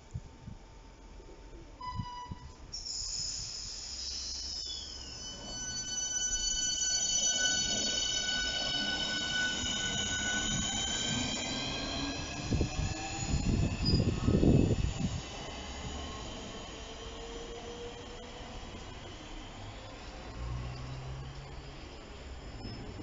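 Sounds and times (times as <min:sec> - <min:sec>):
electric train high-pitched whine: 0:01.8 - 0:23.0
low rumble of wheels: 0:04.2 - 0:23.0.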